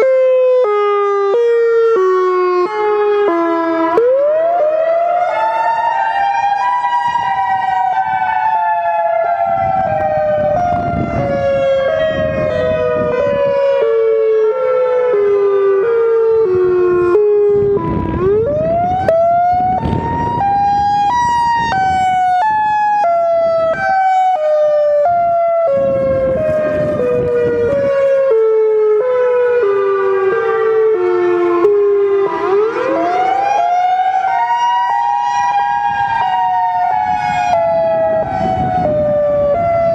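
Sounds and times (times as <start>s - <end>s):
siren wailing: 0.0s - 39.9s.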